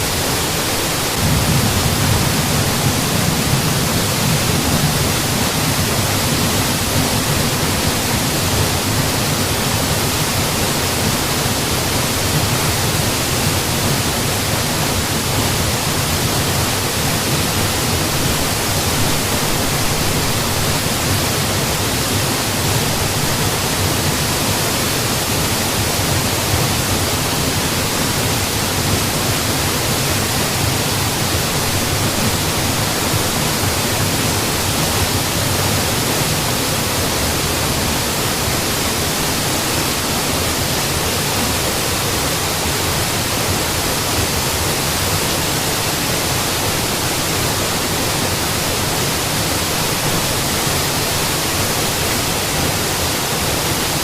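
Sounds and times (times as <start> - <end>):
waterfall crashing: 0.0 - 54.0.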